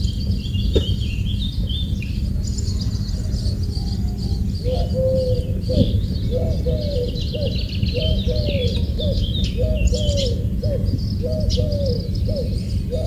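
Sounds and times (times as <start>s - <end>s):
small birds chirping: 0.0s - 13.0s
steady low rumble: 0.0s - 13.0s
dove cooing: 2.3s - 13.0s.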